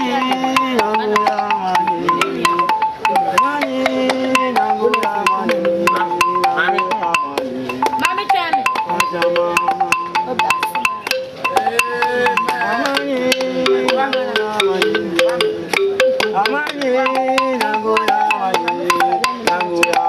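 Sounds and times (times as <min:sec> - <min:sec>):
fast percussion: 0:00.0 - 0:20.0
voices singing: 0:00.0 - 0:20.0.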